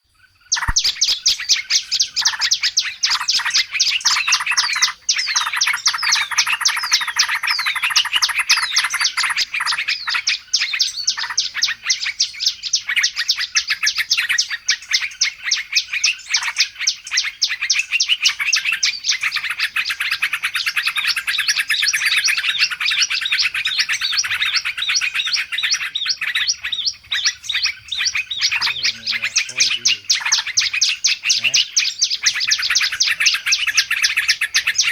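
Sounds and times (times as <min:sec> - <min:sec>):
songbirds chirping and twittering: 0:00.0 - 0:34.9.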